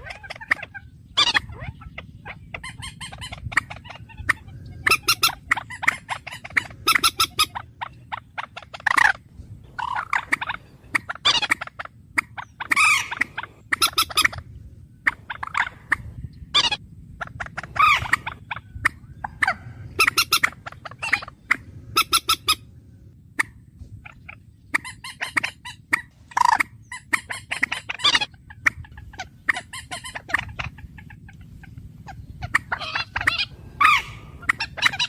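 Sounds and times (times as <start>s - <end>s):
bird chattering and calling: 0.0s - 35.0s
low background hum: 0.0s - 35.0s.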